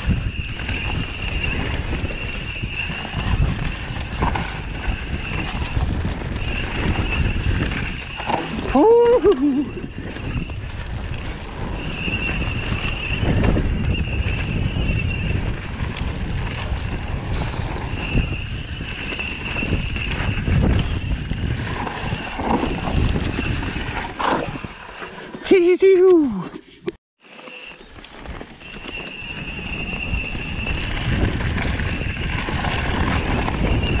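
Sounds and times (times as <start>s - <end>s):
wind buffeting microphone: 0.0s - 25.0s, 28.2s - 34.0s
bike tyre and frame noise: 0.0s - 25.5s, 26.4s - 34.0s.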